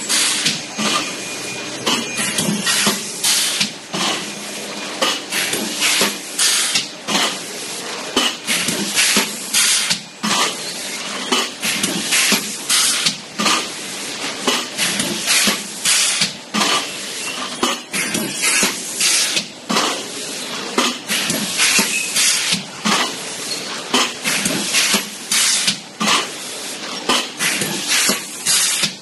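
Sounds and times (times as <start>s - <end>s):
machine hissing and clattering: 0.0s - 29.0s
steady mechanical background: 0.0s - 29.0s.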